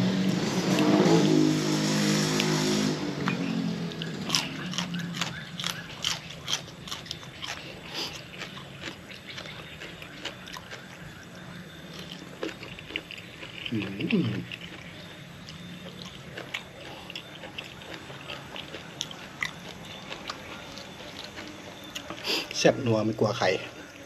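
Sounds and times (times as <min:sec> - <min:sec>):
low droning hum: 0:00.0 - 0:24.0
person chewing crunchy food: 0:02.2 - 0:24.0.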